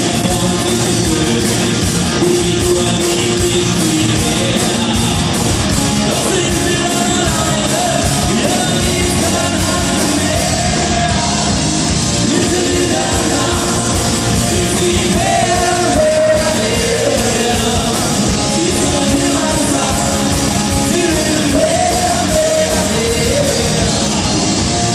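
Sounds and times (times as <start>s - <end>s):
person singing: 0.0s - 24.9s
rock band playing live: 0.0s - 24.9s
steady drumbeat: 0.0s - 24.9s.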